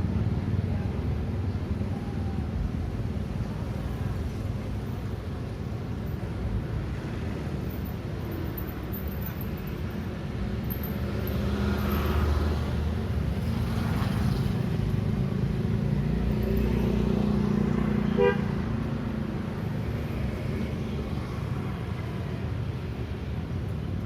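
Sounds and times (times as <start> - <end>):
vehicle engines passing: 0.0 - 24.0.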